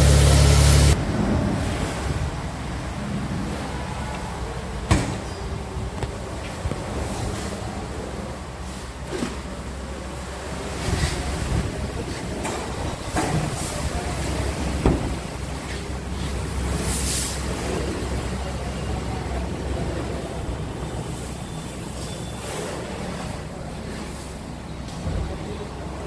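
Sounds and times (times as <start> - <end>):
low rumble with hiss: 0.0 - 26.0.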